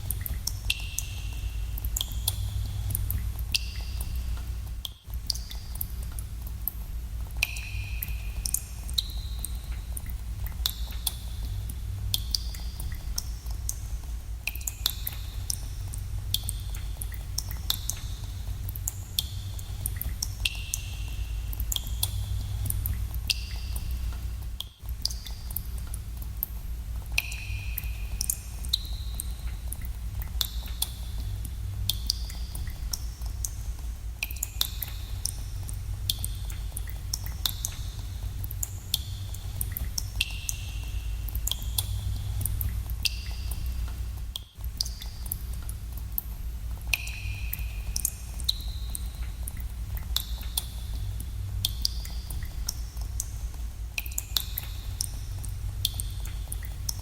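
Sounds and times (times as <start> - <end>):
steady low rumble: 0.0 - 57.0
water drops plinking into water: 0.1 - 6.2, 7.4 - 11.2, 14.4 - 18.1, 18.7 - 26.5, 27.2 - 33.6, 34.2 - 53.4, 54.0 - 57.0.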